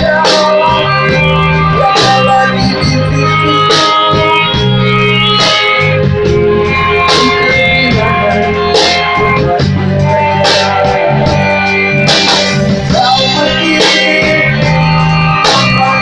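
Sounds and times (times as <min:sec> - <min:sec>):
bass line: 0:00.0 - 0:16.0
live band with electric guitar: 0:00.0 - 0:16.0.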